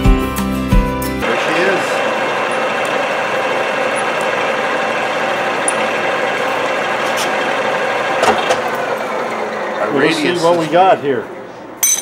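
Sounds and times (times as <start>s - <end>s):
milling machine cutting metal: 1.2s - 11.5s.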